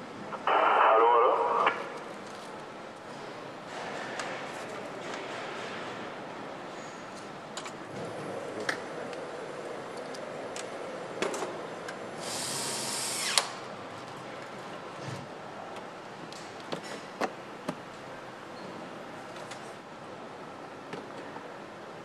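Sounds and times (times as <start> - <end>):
factory background noise: 0.0 - 22.0.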